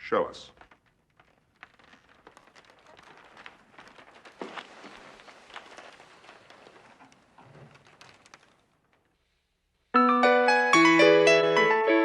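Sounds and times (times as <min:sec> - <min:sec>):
faint rustling: 0:00.0 - 0:09.9.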